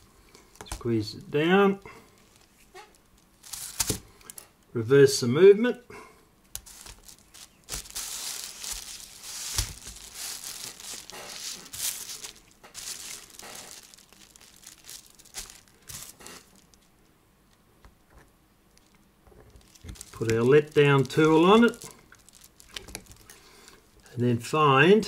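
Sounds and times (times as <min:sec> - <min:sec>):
rustling and crinkling: 0:00.0 - 0:04.6, 0:06.5 - 0:24.2.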